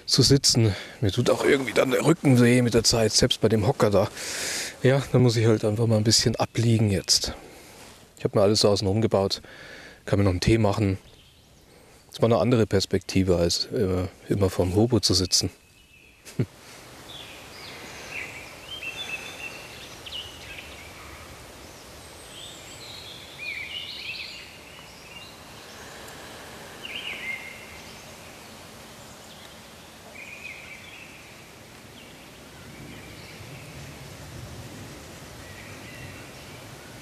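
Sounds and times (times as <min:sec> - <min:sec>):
songbirds chirping: 0:00.0 - 0:37.0
steady background hiss: 0:00.0 - 0:37.0.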